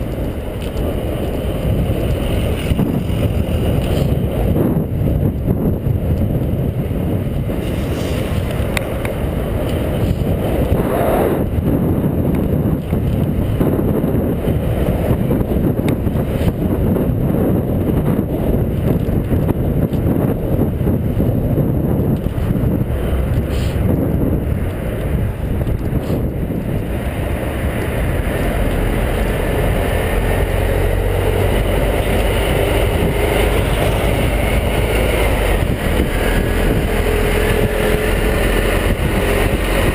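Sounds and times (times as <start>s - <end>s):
bus engine hum: 0.0s - 39.9s
street traffic noise: 0.0s - 39.9s
wind buffeting microphone: 0.0s - 39.9s.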